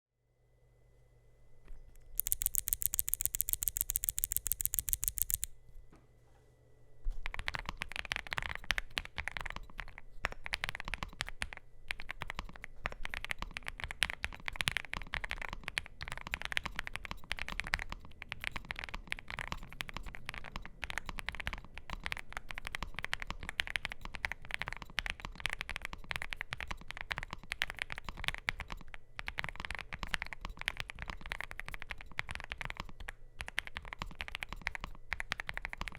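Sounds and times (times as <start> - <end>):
mechanical keyboard typing: 2.0 - 5.5, 7.2 - 35.9
rapid sharp clicks: 2.0 - 5.5, 7.2 - 35.9.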